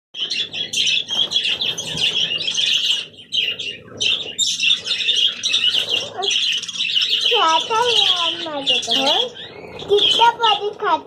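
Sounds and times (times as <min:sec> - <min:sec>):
budgerigars chirping and chattering: 0:00.2 - 0:11.0.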